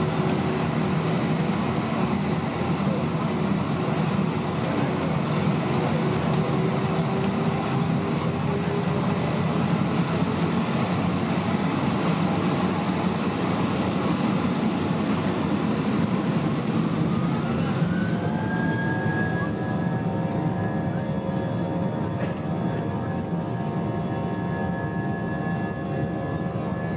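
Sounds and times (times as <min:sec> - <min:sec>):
jet engines roaring in cabin: 0:00.0 - 0:26.9.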